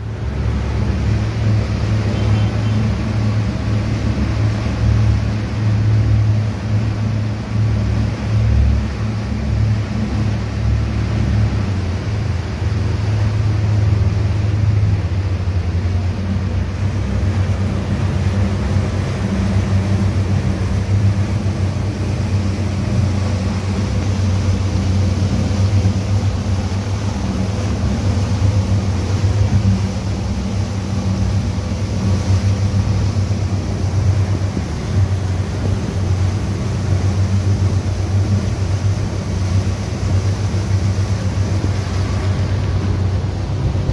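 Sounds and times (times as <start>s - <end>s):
boat engine droning: 0.0s - 43.9s
rushing water: 0.0s - 43.9s
rushing wind: 0.0s - 43.9s.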